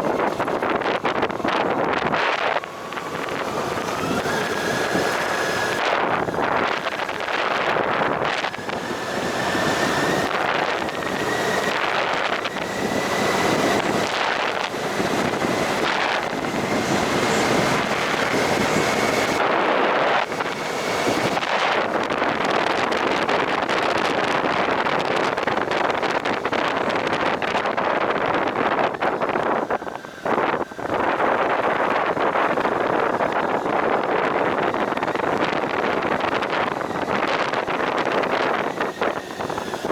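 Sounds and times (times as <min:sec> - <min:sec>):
motorcycle high whine: 0:00.0 - 0:39.9
wind buffeting microphone: 0:00.0 - 0:39.9.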